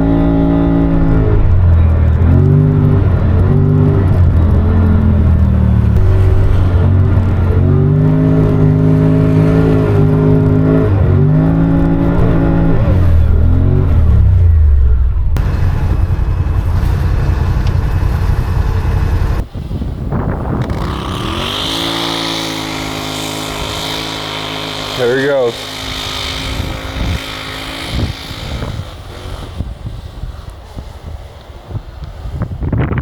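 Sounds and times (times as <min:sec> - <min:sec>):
high whine: 0:00.0 - 0:30.5
utility vehicle engine droning: 0:00.0 - 0:32.1
rough rumbling noise: 0:00.0 - 0:33.0.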